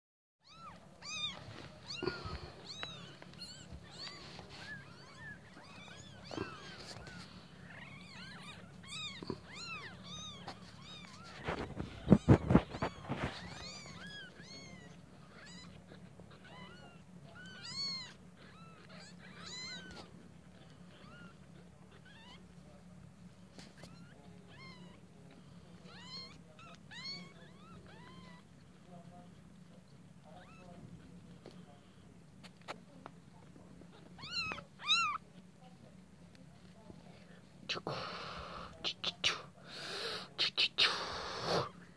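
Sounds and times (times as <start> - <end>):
newborn kittens mewing: 0.4 - 35.6, 37.4 - 41.9
rustling: 0.4 - 37.7.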